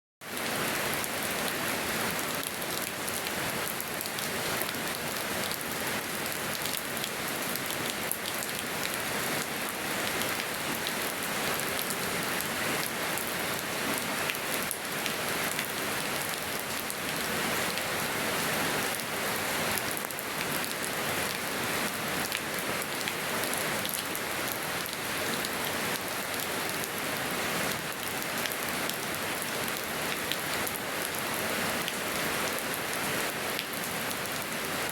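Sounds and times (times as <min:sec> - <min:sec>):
rain pattering on surfaces: 0:00.2 - 0:18.2, 0:18.8 - 0:34.9.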